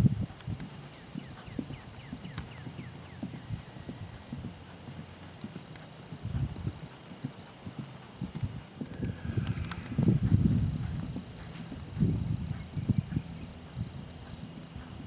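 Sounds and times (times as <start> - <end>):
horse hoofbeats on grass: 0.0 - 15.0.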